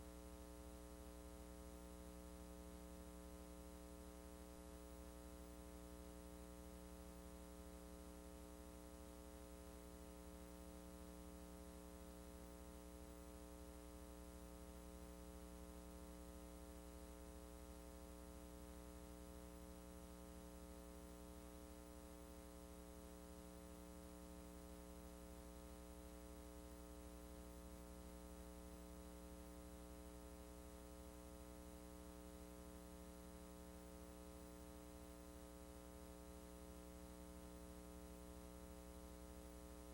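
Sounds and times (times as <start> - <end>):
faint mains hum with hiss: 0.0 - 39.9.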